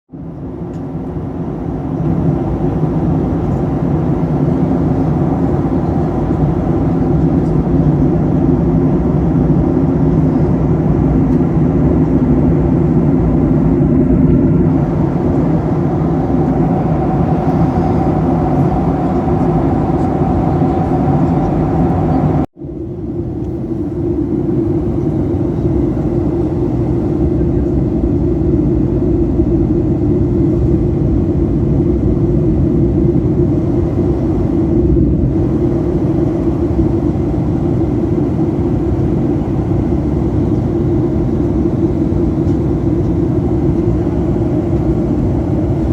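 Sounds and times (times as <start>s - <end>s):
airliner cabin engine rumble: 0.1s - 45.9s.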